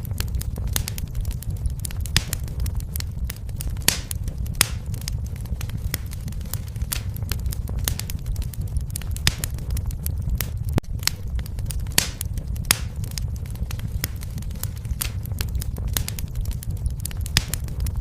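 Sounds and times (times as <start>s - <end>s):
fire popping: 0.0s - 18.0s
fire rumbling and crackling: 0.0s - 18.0s.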